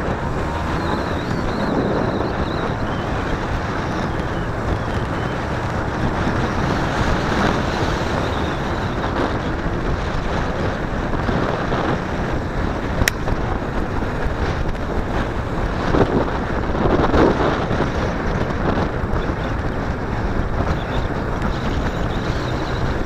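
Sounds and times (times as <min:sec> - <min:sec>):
two-stroke motorcycle engine: 0:00.0 - 0:23.0
wind rushing over microphone: 0:00.0 - 0:23.0.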